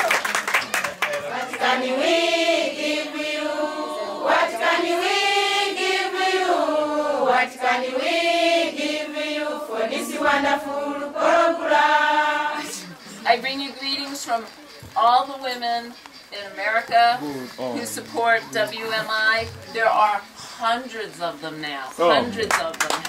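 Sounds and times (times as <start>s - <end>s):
women singing together: 1.2s - 17.1s, 17.8s - 22.7s.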